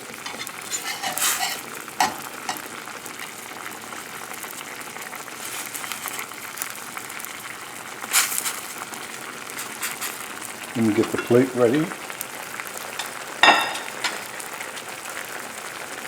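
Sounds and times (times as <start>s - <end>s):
sauce sizzling in a pan: 0.0s - 16.0s.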